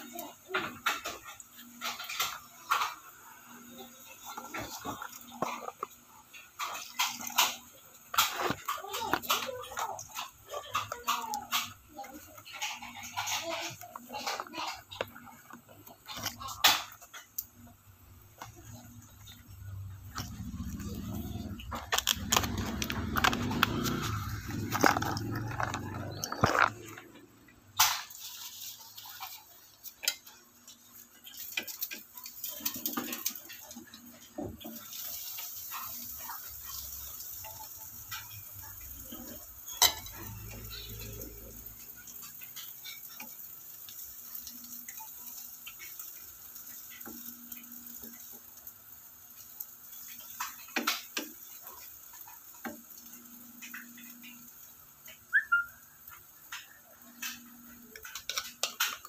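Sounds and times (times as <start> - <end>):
pancake sizzling: 0.0 - 59.0.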